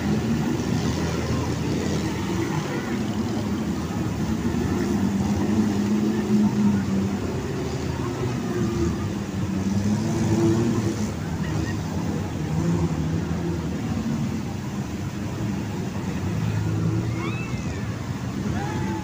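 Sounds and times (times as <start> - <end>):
off-road vehicle engines: 0.0 - 19.0.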